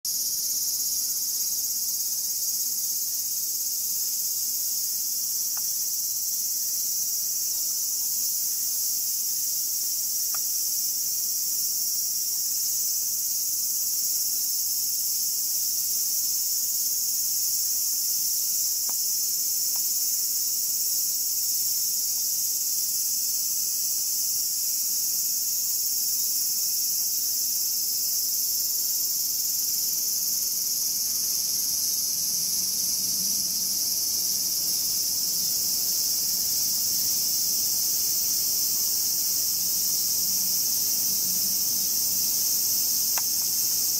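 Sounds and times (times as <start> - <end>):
insects chorus: 0.1 - 43.9.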